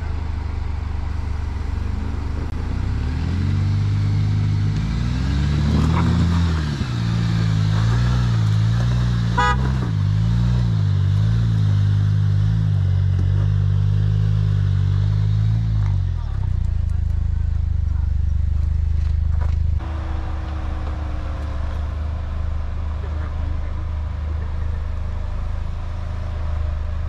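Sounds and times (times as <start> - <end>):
car engine under load: 0.0 - 27.0.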